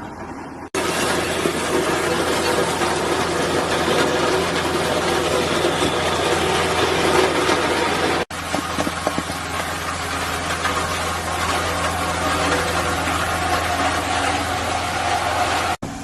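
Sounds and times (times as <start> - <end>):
road roller engine running: 0.0 - 16.0.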